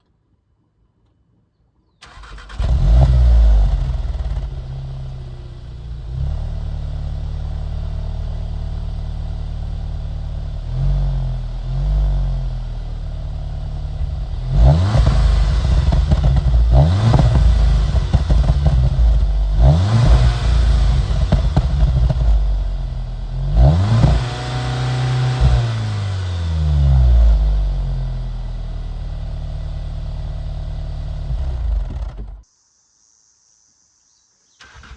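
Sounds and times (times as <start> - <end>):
car engine starting and revving: 2.0 - 32.4.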